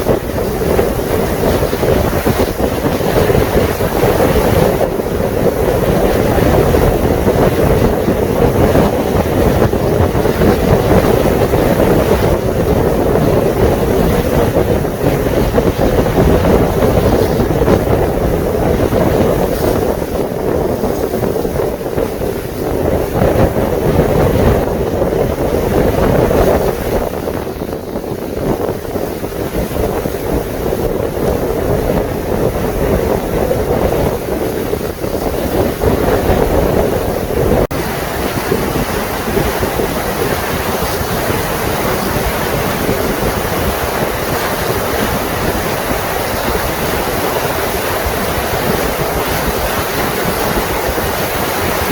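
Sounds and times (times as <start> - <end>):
water: 0.0 - 51.9
wind rushing over microphone: 0.0 - 51.9.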